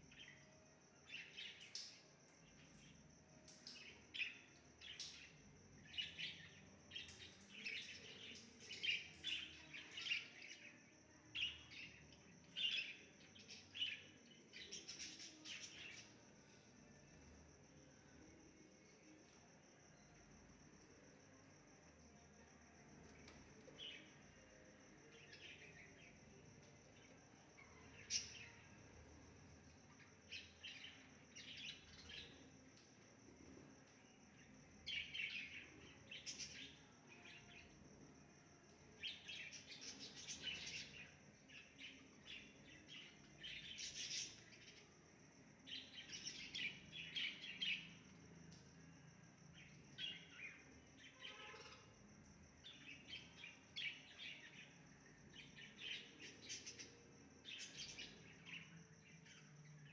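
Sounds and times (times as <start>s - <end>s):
small birds chirping: 0.0s - 17.6s, 23.0s - 37.9s, 38.6s - 45.0s, 45.6s - 51.9s, 52.6s - 59.9s.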